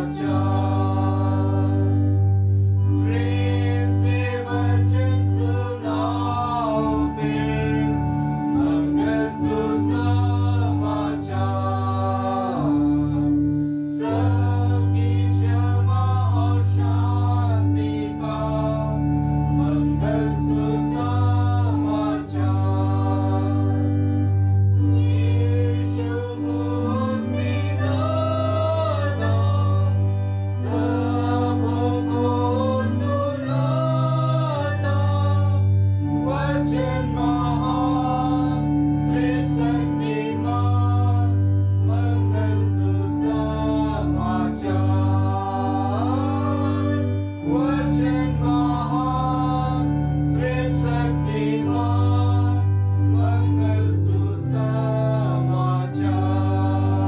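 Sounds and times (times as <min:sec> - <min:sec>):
instrumental accompaniment: 0:00.0 - 0:57.0
voices singing a hymn: 0:00.0 - 0:57.0.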